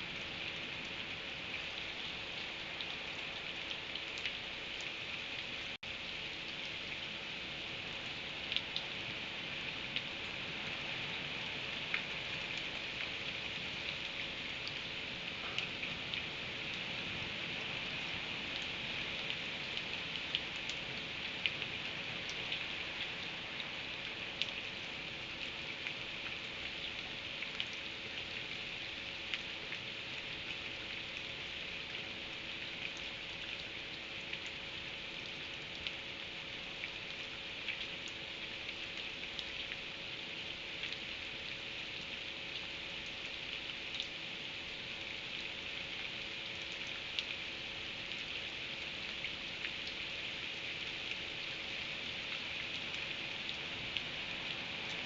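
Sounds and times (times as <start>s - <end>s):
raindrops ticking on a surface: 0.0s - 55.0s
steady rain falling: 0.0s - 55.0s.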